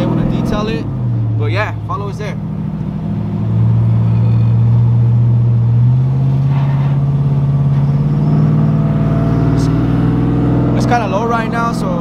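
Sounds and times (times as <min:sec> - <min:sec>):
truck engine and exhaust: 0:00.0 - 0:12.0.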